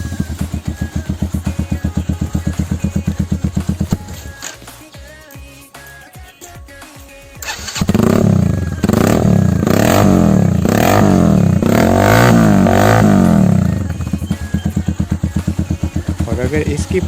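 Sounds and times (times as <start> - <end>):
motorcycle engine revving: 0.0 - 4.7, 7.4 - 17.0
motorcycle idling: 0.0 - 17.0.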